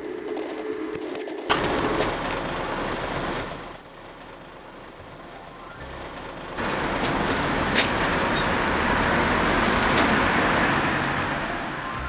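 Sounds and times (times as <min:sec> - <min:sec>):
bus engine rushing noise: 0:00.0 - 0:12.0.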